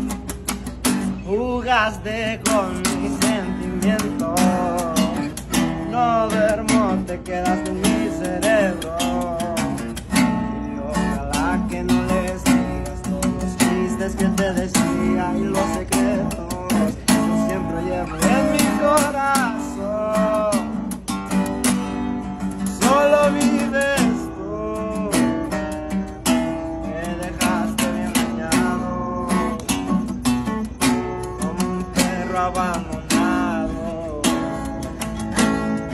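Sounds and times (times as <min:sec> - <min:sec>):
acoustic bass guitar: 0:00.0 - 0:35.9
acoustic guitar strummed: 0:00.0 - 0:35.9.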